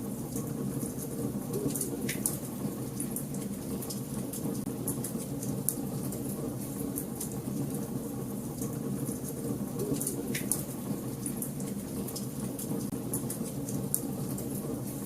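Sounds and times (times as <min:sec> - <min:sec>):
low fire rumble: 0:00.0 - 0:15.0
wood fire crackling and snapping: 0:00.2 - 0:15.0.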